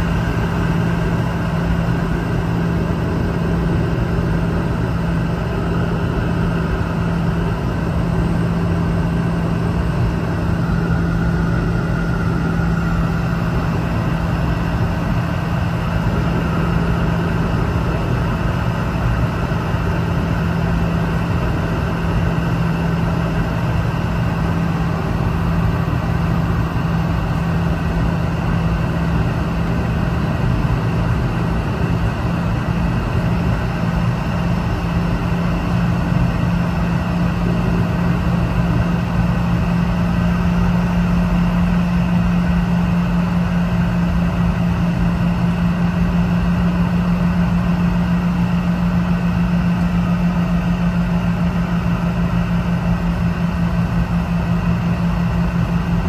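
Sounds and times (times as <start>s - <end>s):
jet airliner cabin drone: 0.0s - 56.0s.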